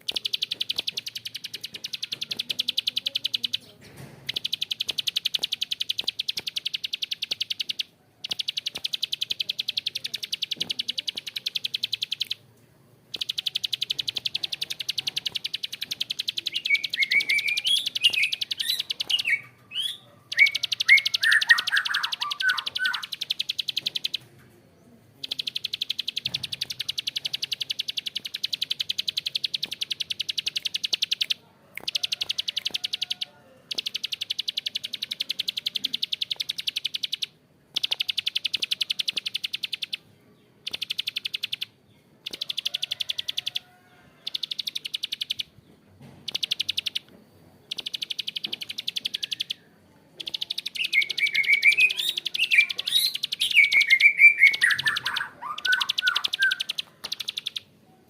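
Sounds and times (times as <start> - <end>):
bird chirps: 0.0 - 12.4, 13.1 - 57.8
bird clicking trill: 0.0 - 12.5, 13.1 - 24.4, 25.2 - 45.5, 46.2 - 57.8.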